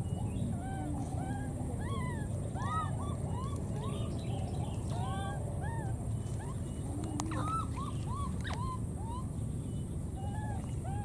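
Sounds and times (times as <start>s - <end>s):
low background rumble: 0.0s - 11.0s
baby monkey crying: 0.4s - 9.3s.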